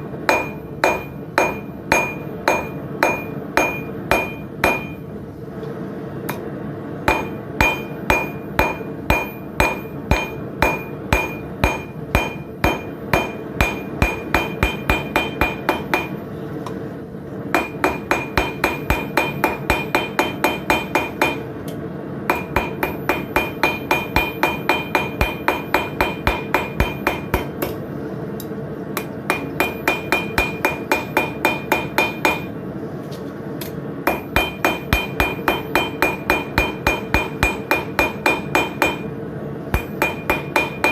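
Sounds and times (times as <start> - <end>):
hammer striking steel on anvil: 0.2 - 5.1, 7.1 - 16.8, 17.5 - 27.8, 29.0 - 32.6, 33.6 - 40.9.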